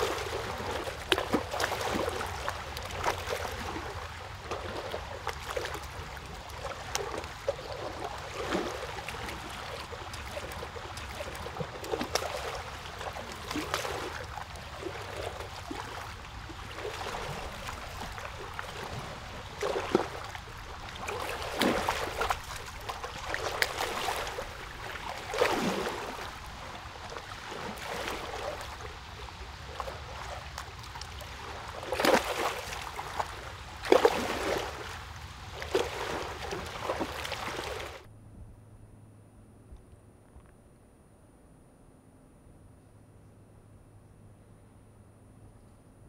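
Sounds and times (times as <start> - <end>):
running water splashing: 0.0 - 38.1.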